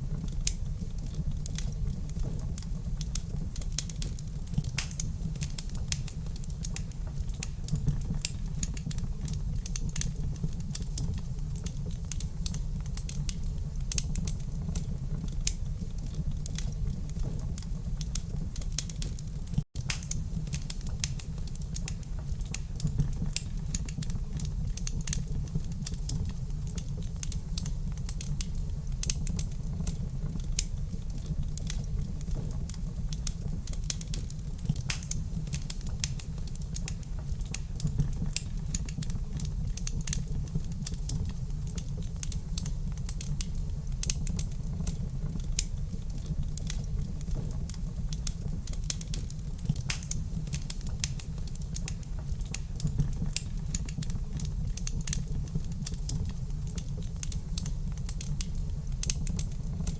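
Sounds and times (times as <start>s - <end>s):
fire pops and crackles: 0.0s - 59.9s
fire rumbling in fireplace: 0.0s - 59.9s.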